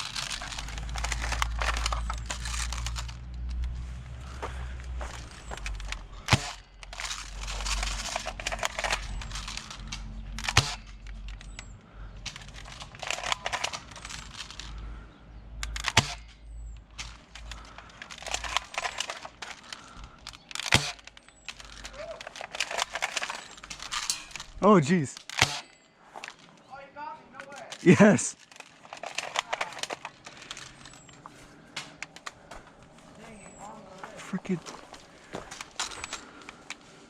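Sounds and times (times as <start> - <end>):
crunching and rustling: 0.0 - 37.0.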